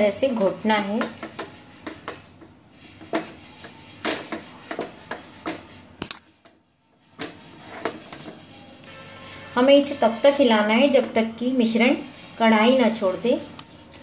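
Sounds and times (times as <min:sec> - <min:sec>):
spatula scraping a pan: 0:00.0 - 0:14.0.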